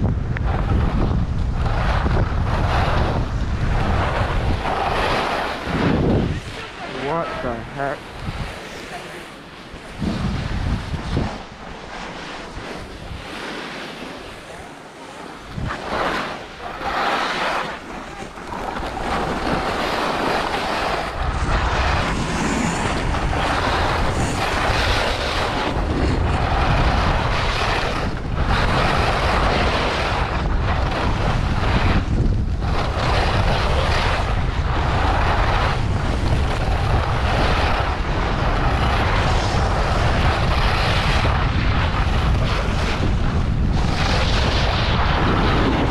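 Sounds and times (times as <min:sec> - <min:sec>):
wind buffeting microphone: 0:00.0 - 0:45.9
skis scraping on snow: 0:00.4 - 0:45.9.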